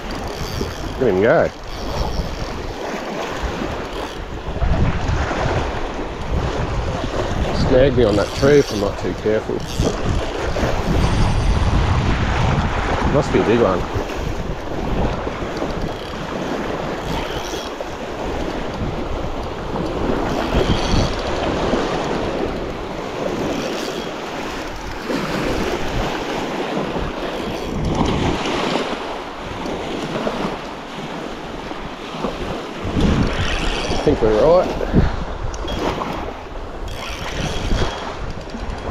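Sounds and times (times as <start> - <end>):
lake water lapping at shore: 0.0 - 38.9
wind buffeting microphone: 0.0 - 38.9.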